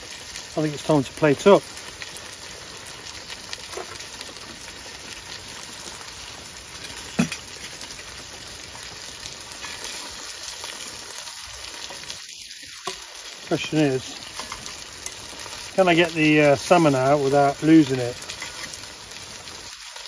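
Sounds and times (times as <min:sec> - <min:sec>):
fish sizzling in a pan: 0:00.0 - 0:20.0.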